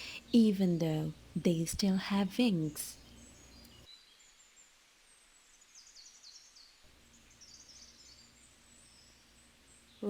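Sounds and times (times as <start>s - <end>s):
soft hiss: 0.0s - 10.0s.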